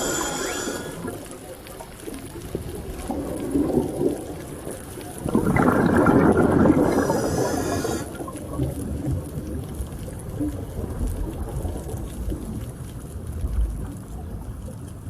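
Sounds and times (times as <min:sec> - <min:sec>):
underwater rushing and bubbling: 0:00.0 - 0:15.0.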